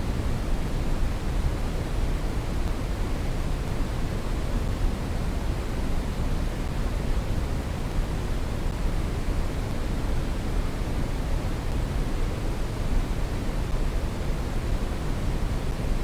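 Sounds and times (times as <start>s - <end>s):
brown noise hiss: 0.0s - 16.0s.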